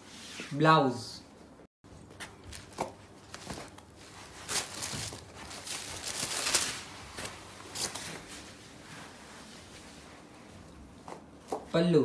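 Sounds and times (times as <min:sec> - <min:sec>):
paper and cloth rustling: 0:02.0 - 0:11.8.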